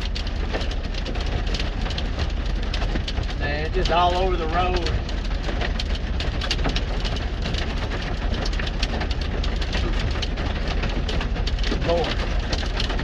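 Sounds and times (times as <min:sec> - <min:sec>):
hail pelting a truck: 0:00.0 - 0:13.0.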